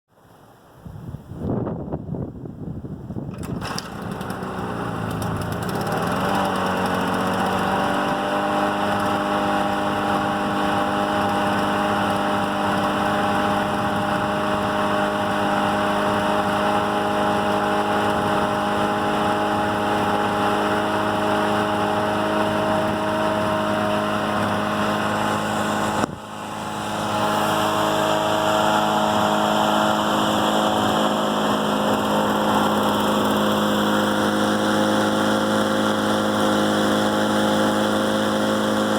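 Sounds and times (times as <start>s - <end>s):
two-stroke engine idling: 3.4s - 13.0s, 13.6s - 38.9s.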